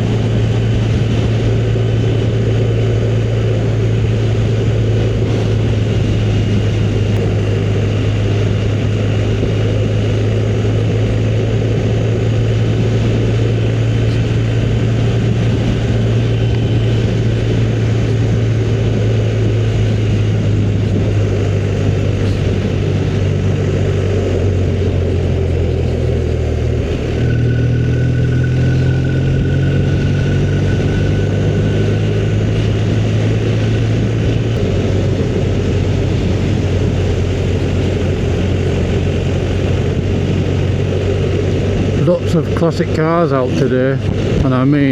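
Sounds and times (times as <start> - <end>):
motorcycle engine running: 0.0 - 44.9
wind rush: 0.0 - 44.9.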